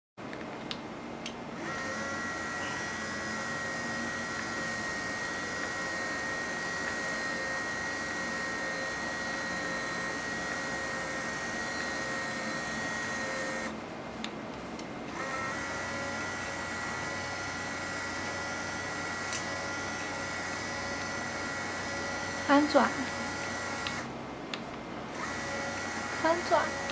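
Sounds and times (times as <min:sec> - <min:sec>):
blind motor whining: 0:01.5 - 0:13.9, 0:15.0 - 0:24.2, 0:25.1 - 0:26.9.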